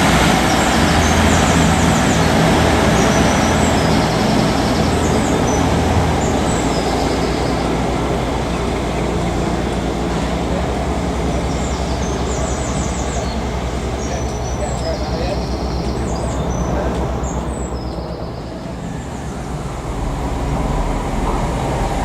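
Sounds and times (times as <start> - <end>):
birds chirping faintly: 0.0 - 22.0
train passing: 0.0 - 22.0.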